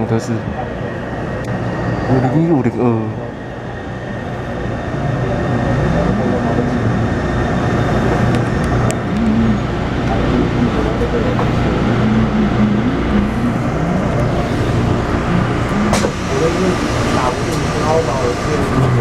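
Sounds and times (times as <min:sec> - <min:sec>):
train rumbling: 0:00.0 - 0:19.0
wavering motor and inverter tones: 0:03.2 - 0:19.0.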